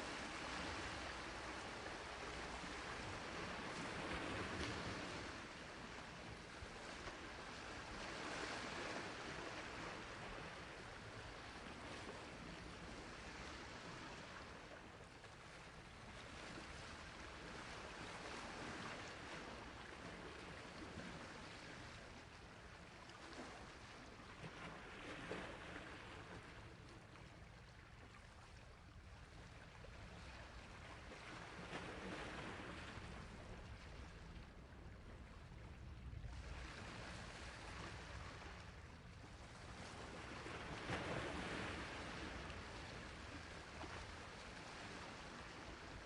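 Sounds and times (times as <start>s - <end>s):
sea waves washing on shore: 0.0s - 27.1s, 28.0s - 46.0s.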